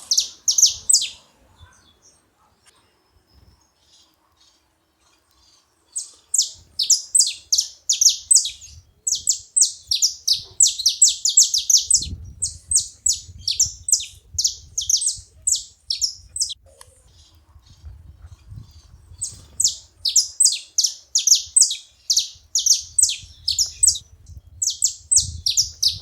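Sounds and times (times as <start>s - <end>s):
finches singing: 0.0s - 2.3s, 3.1s - 26.0s.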